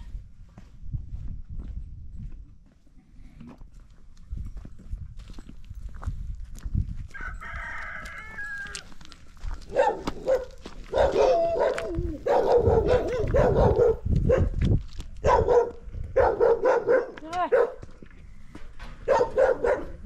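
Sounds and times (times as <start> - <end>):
footsteps crunching on stony ground: 0.0 - 16.2, 17.0 - 19.8.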